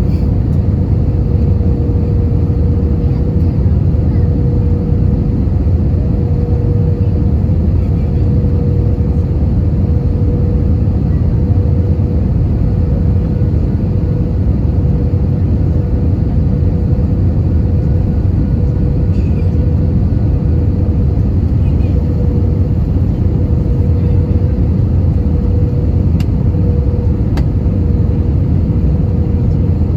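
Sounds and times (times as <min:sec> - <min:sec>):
aircraft cabin engine rumble: 0:00.0 - 0:29.9
constant hum: 0:00.0 - 0:29.9.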